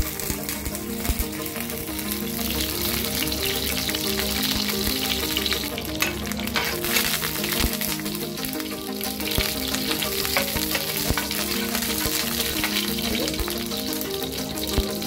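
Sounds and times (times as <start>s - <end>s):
seeds sizzling and popping in oil: 0.0s - 15.0s.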